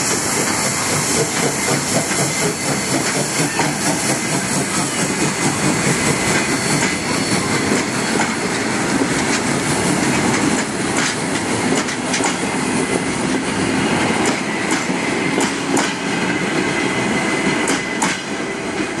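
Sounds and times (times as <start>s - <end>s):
train wheels clattering over rail joints: 0.0s - 19.0s.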